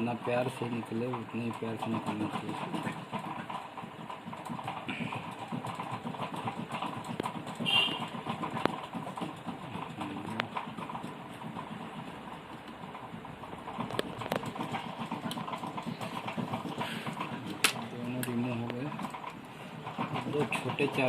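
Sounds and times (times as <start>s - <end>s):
rapid low rattle: 0.0s - 21.0s.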